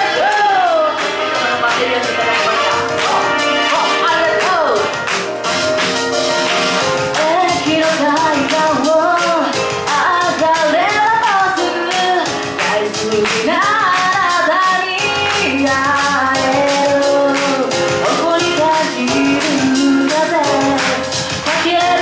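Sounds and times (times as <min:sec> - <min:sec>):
woman singing into microphone: 0:00.0 - 0:05.0, 0:07.1 - 0:22.0
backing track with drum beat: 0:00.0 - 0:22.0.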